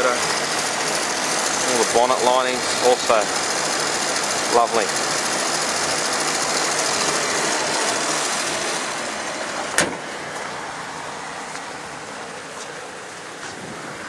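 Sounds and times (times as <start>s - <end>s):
rotary engine idling: 0.0s - 12.4s.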